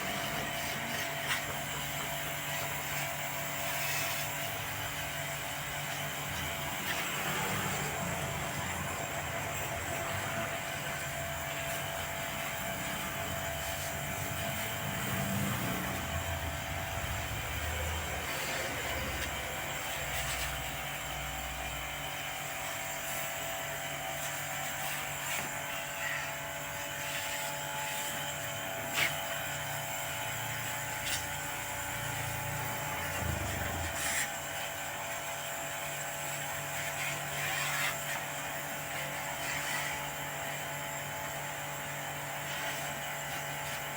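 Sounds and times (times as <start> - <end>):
steady machine hum: 0.0 - 36.7.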